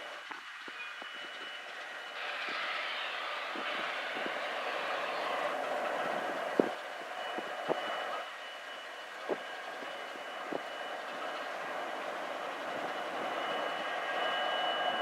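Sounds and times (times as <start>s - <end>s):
freight train cars rolling: 0.0s - 15.0s.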